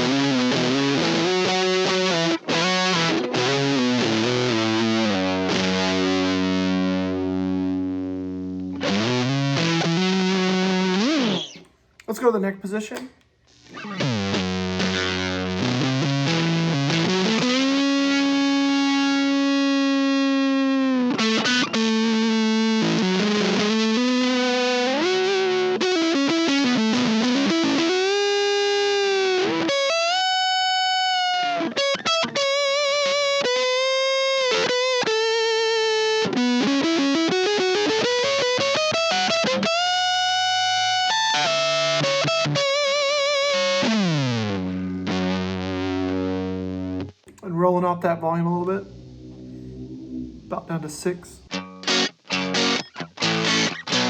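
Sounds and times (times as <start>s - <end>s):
fuzz electric guitar lead notes: 0.0s - 11.7s, 13.6s - 54.0s.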